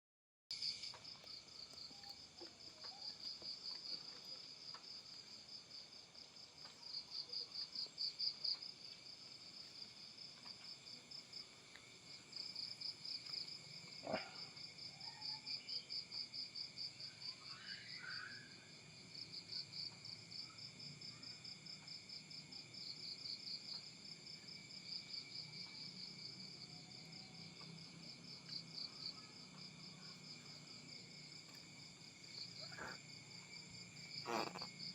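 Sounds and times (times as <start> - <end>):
insects chirping trill: 6.8 - 34.9.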